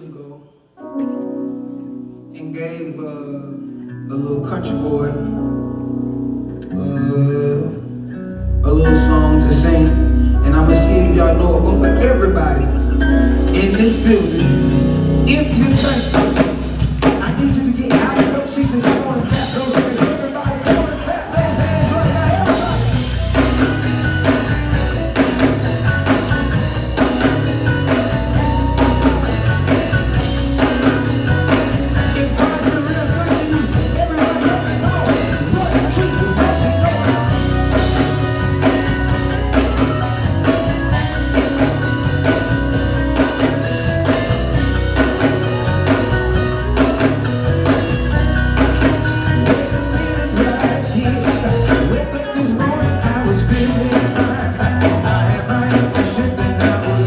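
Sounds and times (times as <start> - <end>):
electric guitar: 3.6 - 57.0
person singing: 6.7 - 24.4, 27.0 - 42.5, 43.1 - 57.0
drum kit: 8.9 - 57.0.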